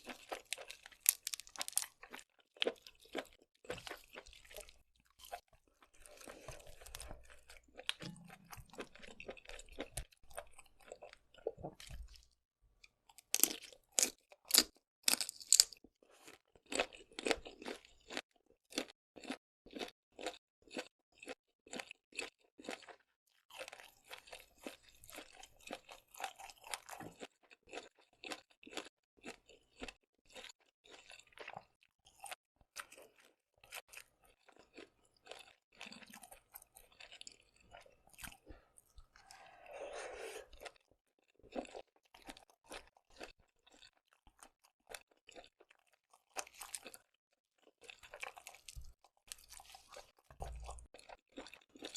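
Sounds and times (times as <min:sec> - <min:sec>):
person chewing crunchy food: 0:00.0 - 0:51.9.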